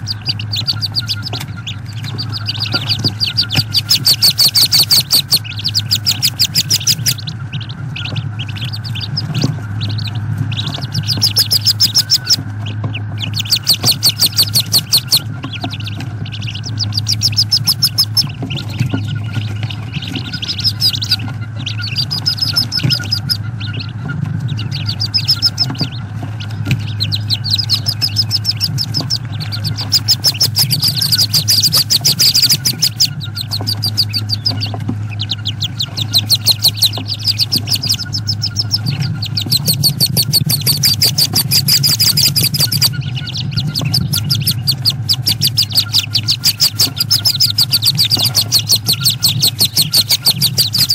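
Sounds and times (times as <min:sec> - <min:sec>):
ducklings peeping: 0:00.0 - 0:50.9
steady low hum: 0:00.0 - 0:50.9.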